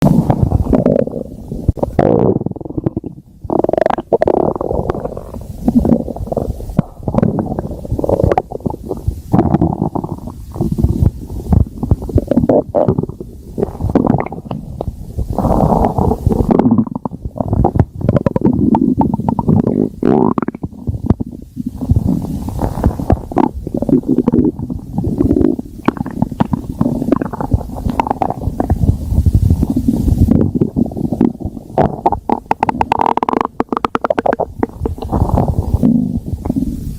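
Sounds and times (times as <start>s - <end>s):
stomach growling: 0.0s - 36.9s.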